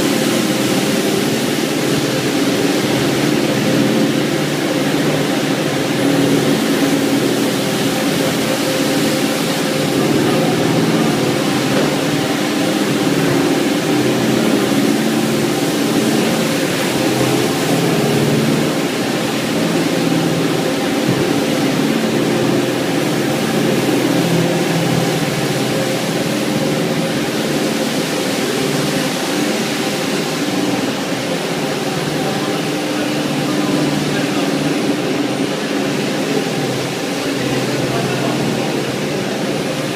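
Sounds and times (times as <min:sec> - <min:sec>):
carpet washing machine humming: 0:00.0 - 0:39.9.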